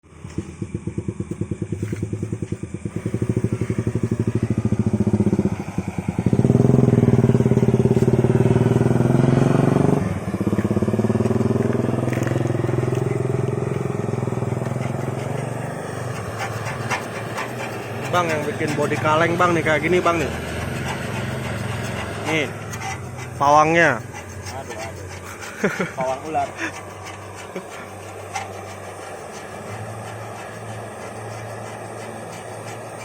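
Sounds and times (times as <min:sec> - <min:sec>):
scooter engine revving: 0:00.1 - 0:33.0.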